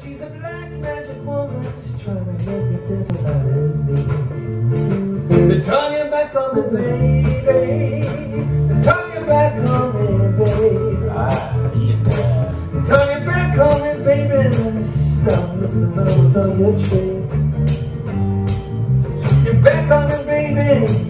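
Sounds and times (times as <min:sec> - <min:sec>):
electric bass line: 0:00.0 - 0:05.9, 0:06.5 - 0:21.0
guitar melody: 0:00.0 - 0:21.0.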